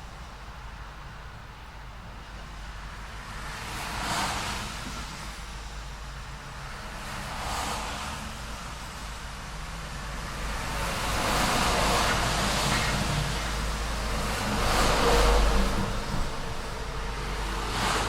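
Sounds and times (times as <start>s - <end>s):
low traffic rumble: 0.0s - 18.0s
vehicles passing: 3.2s - 18.0s.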